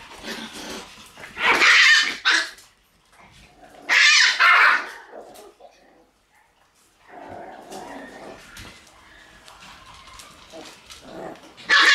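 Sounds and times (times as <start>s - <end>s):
puppies barking and growling: 0.0s - 11.9s.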